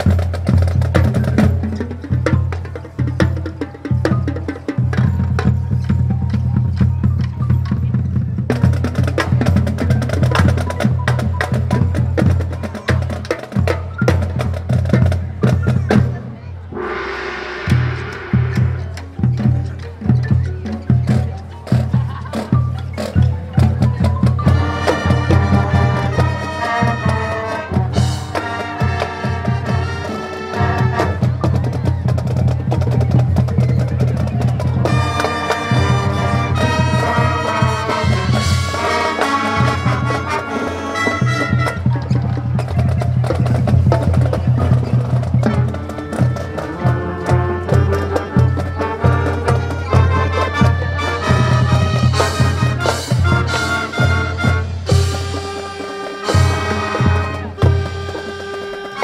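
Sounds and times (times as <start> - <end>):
brass and wind instruments: 0.0 - 59.0
drums keeping a steady beat: 0.0 - 59.0.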